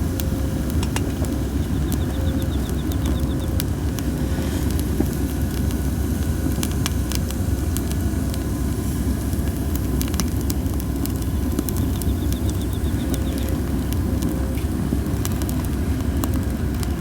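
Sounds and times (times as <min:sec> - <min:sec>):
campfire crackling and popping: 0:00.0 - 0:17.0
logs hissing in fire: 0:00.0 - 0:17.0.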